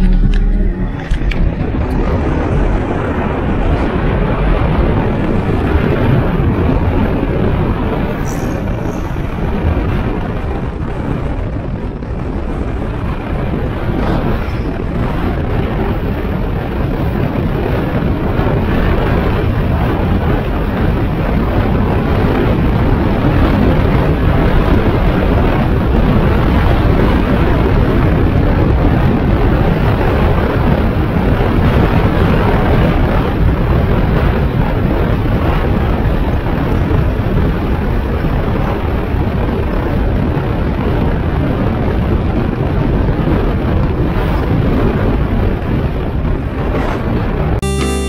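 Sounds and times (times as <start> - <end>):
wind and tyre noise in car: 0.0 - 47.7.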